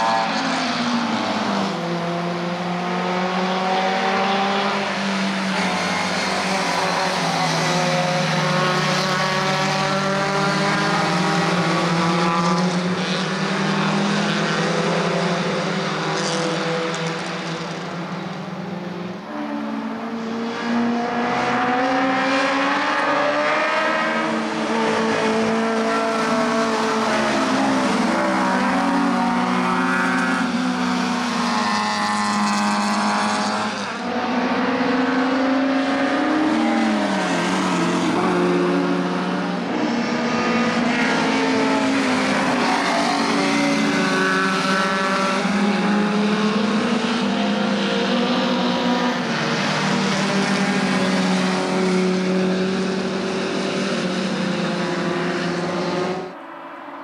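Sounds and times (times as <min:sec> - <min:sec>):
racing car engines passing: 0:00.0 - 0:57.0.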